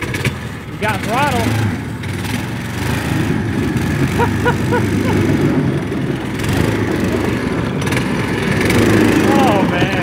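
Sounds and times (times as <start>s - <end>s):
small go-kart engine under throttle: 0.0s - 10.0s.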